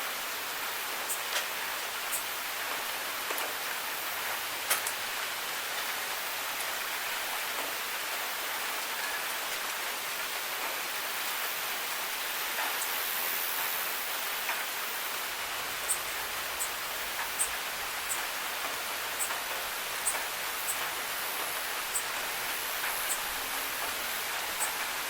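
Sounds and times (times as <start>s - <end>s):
rain hiss: 0.0s - 25.0s.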